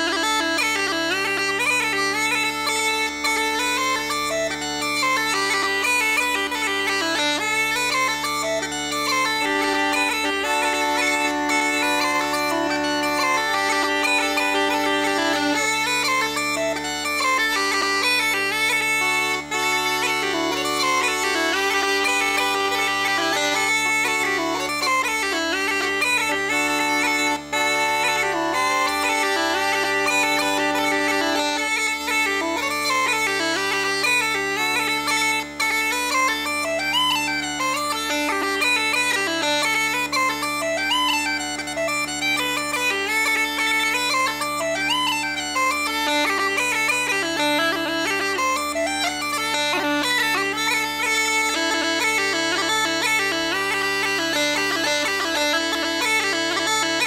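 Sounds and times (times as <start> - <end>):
uilleann pipes playing a jig: 0.0 - 57.0.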